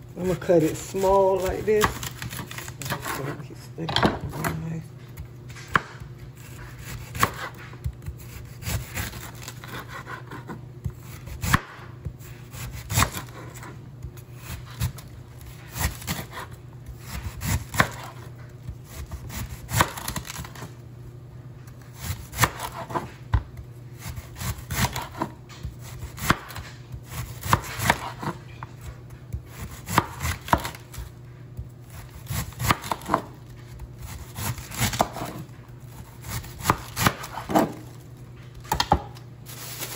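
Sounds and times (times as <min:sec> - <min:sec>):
knife slicing cabbage: 0:00.3 - 0:03.4, 0:04.2 - 0:20.8, 0:21.7 - 0:38.0, 0:38.7 - 0:39.9.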